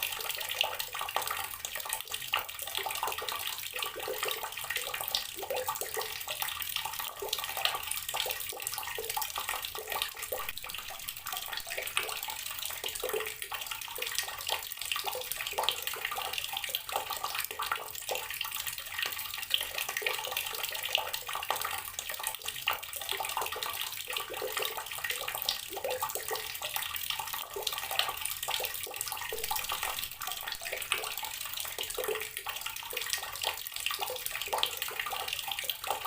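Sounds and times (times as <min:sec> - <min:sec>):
tap water splashing into container: 0:07.1 - 0:36.0.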